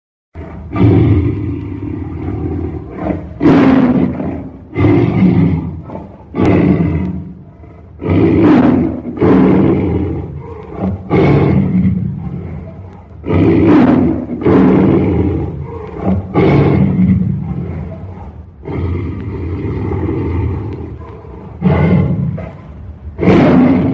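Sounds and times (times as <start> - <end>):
tiger roaring: 0.4 - 23.9.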